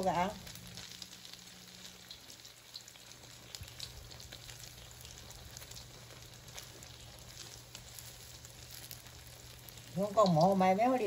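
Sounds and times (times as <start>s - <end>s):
oil sizzling and crackling in wok: 0.0s - 11.0s.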